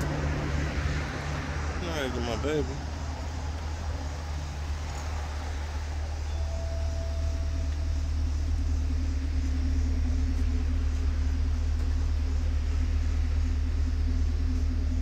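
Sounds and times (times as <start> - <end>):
car engine rumble: 0.0 - 15.0
droning hum: 3.0 - 15.0.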